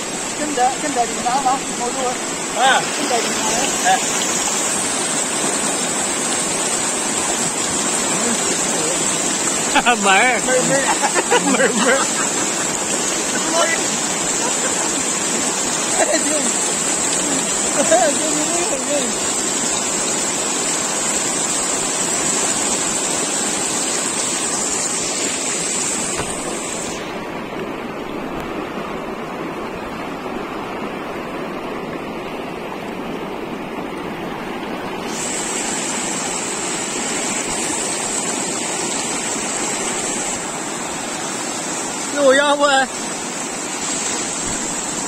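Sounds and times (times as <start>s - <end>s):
stream water rushing: 0.0s - 45.0s.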